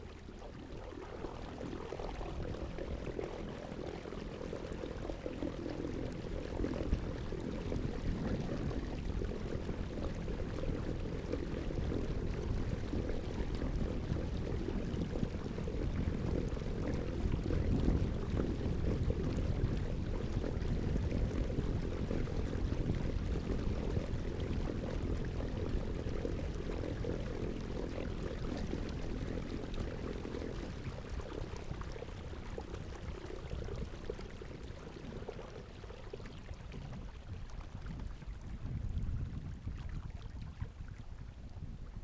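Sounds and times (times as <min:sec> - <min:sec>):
water rushing around kayak: 0:00.0 - 0:42.0.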